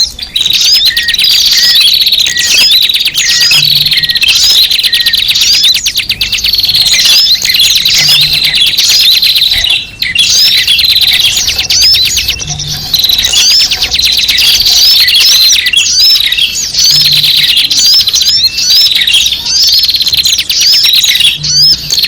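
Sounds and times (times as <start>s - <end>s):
small birds chirping: 0.0s - 22.0s
steady bird trill: 0.0s - 22.0s.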